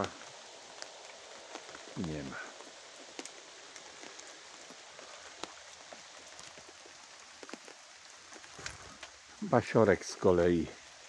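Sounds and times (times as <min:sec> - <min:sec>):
raindrops ticking on surfaces: 0:00.0 - 0:11.0
steady rain falling: 0:00.0 - 0:11.0.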